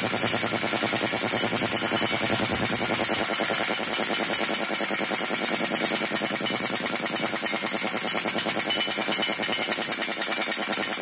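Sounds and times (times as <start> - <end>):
pneumatic impact wrench hammering: 0.0 - 11.0.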